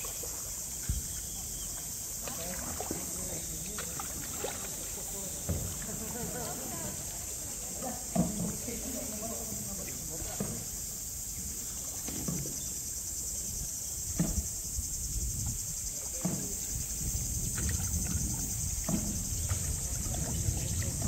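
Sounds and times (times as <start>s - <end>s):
insects droning: 0.0s - 21.0s
kayak paddle dipping in water: 0.0s - 21.0s.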